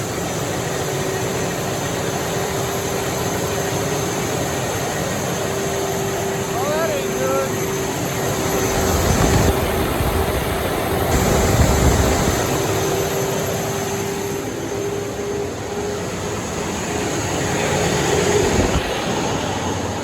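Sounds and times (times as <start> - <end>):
diesel engine running loud: 0.0 - 20.0
steady whine: 0.0 - 20.0.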